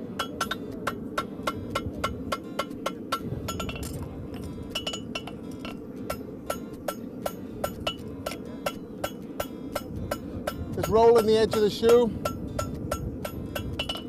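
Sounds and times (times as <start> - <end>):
hammer ringing on anvil: 0.1 - 14.0.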